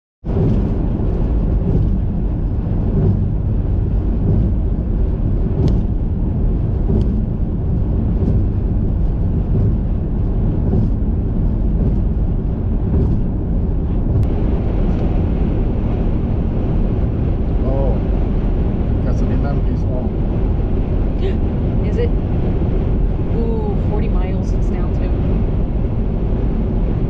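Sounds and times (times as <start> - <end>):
car road and engine rumble: 0.2 - 27.0.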